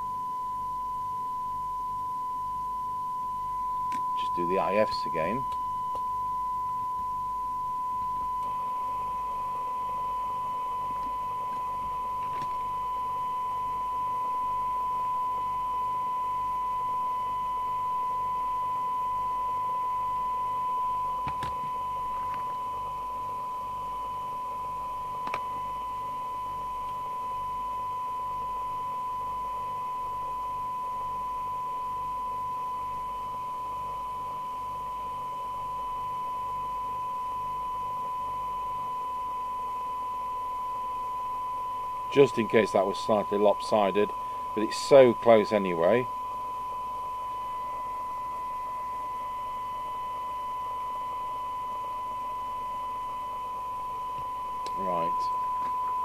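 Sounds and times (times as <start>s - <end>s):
faint low pulsing hum: 0.0s - 56.0s
steady test tone: 0.0s - 56.0s.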